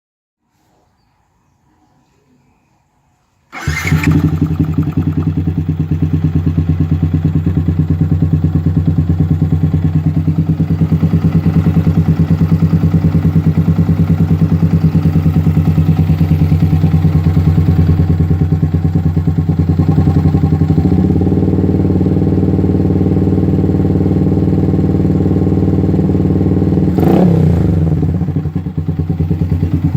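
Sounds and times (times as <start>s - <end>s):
motorcycle engine idling: 3.5s - 29.9s.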